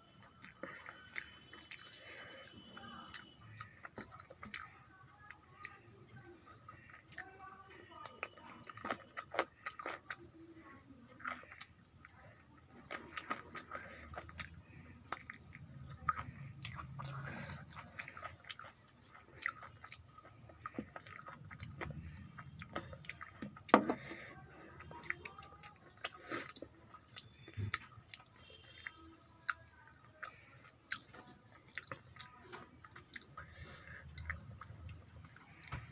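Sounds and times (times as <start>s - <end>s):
person chewing: 0.1s - 7.4s, 8.0s - 35.9s.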